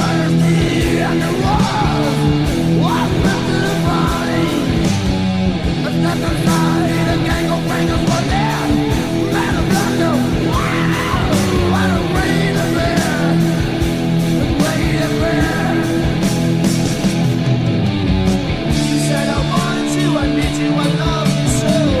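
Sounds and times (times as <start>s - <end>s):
distorted electric guitars: 0.0s - 22.0s
heavy metal song: 0.0s - 22.0s.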